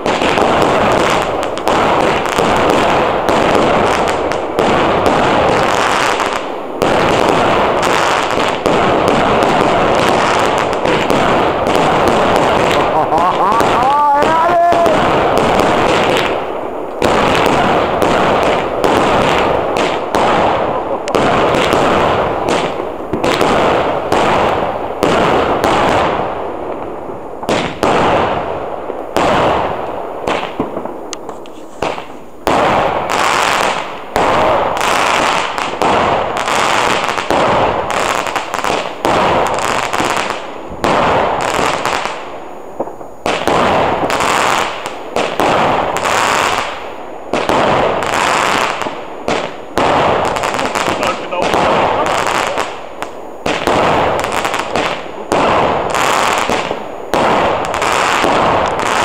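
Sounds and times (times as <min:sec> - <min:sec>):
fireworks volley with crackling: 0:00.0 - 0:59.0.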